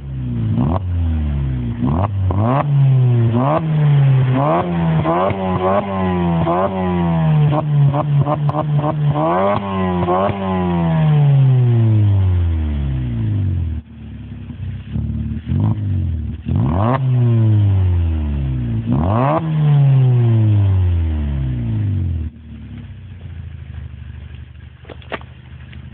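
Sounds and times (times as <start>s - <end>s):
car engine idling: 0.0s - 16.5s, 20.3s - 25.9s
car engine revving: 0.0s - 25.9s.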